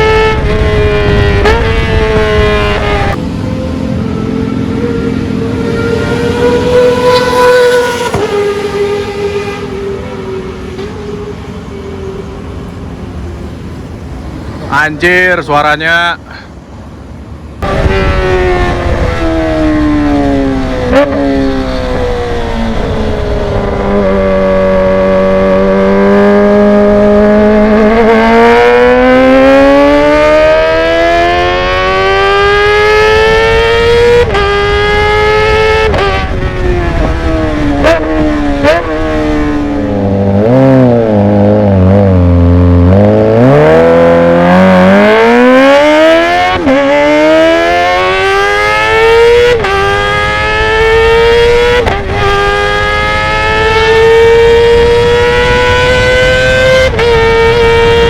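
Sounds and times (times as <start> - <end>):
motorcycle engine revving: 0.0 - 13.6, 17.6 - 58.0.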